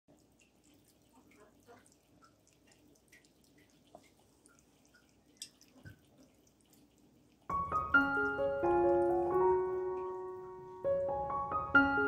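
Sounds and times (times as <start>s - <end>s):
cat lapping water: 0.1s - 10.2s.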